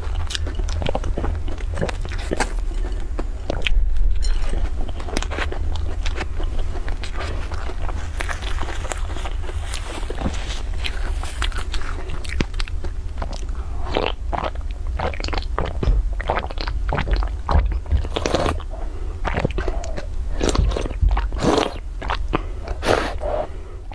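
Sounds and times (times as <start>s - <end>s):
biting and chewing: 0.0s - 23.9s.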